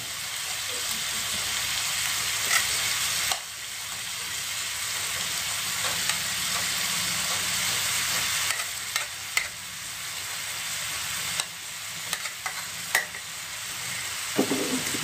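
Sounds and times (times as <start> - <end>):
paste sizzling in a wok: 0.0 - 15.0.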